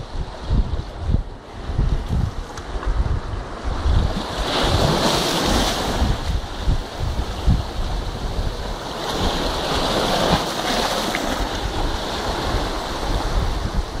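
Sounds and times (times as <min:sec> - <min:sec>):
surf washing: 0:00.0 - 0:14.0
wind buffeting microphone: 0:00.0 - 0:14.0.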